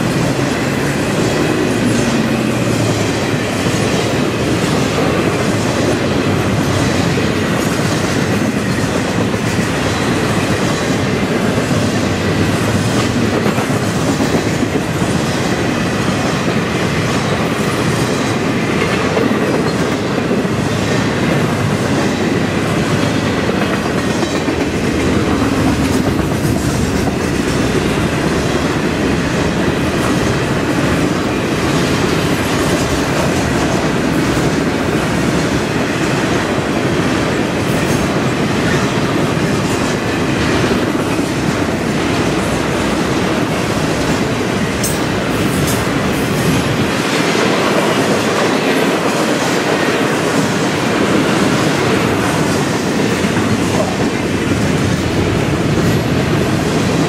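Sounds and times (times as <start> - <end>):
freight train wheels rumbling: 0.0 - 57.0
wheels clickety-clack: 0.0 - 57.0.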